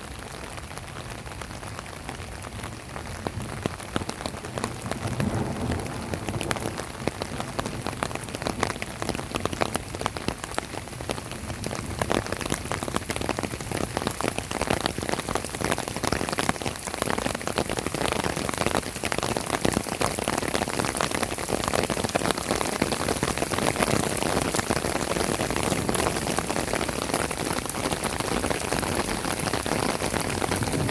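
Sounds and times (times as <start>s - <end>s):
heavy rain on hard surface: 0.0s - 30.9s.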